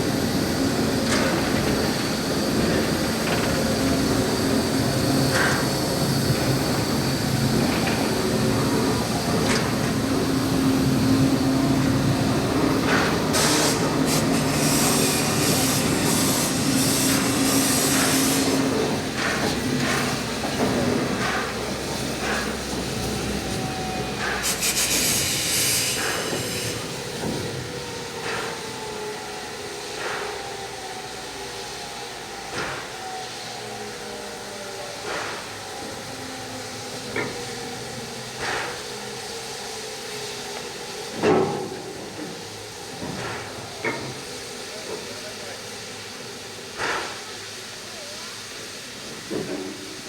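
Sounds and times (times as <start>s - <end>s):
steam locomotive hissing steam: 0.0s - 50.0s.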